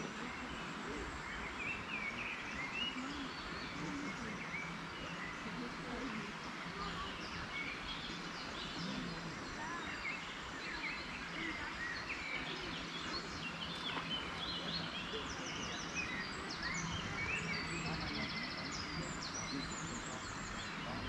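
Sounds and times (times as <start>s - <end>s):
outdoor background hiss: 0.0s - 21.0s
small birds chirping: 0.0s - 21.0s.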